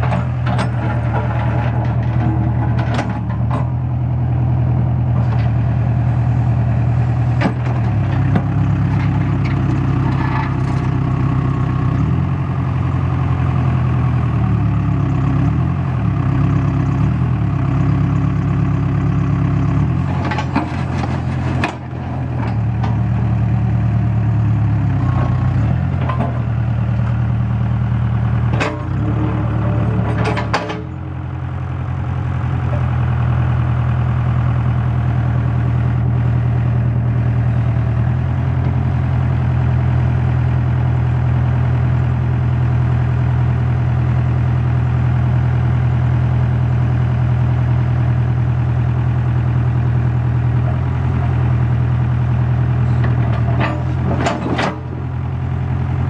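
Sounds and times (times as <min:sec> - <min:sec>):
diesel engine idling: 0:00.0 - 0:20.3, 0:21.2 - 0:54.1, 0:54.8 - 0:56.0.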